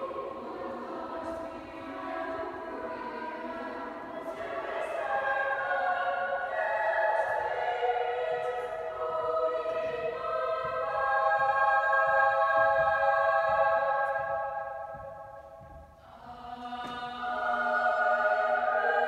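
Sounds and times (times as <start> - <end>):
choir singing long chords: 0.0 - 19.0.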